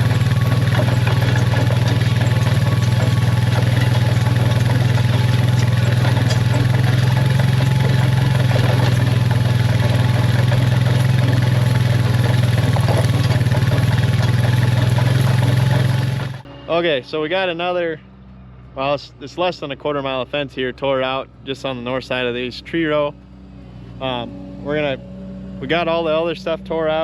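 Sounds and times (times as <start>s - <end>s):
vehicle engine low hum: 0.0s - 26.9s.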